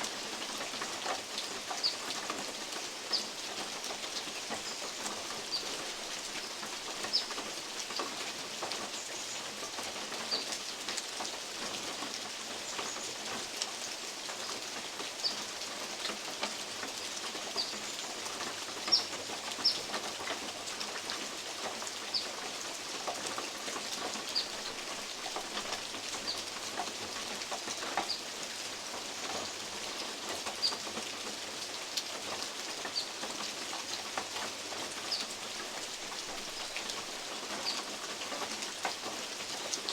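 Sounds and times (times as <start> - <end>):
steady rain in woodland: 0.0 - 39.9.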